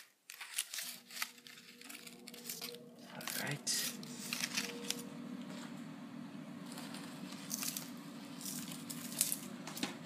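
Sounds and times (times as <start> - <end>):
steady low hum: 0.7 - 10.0.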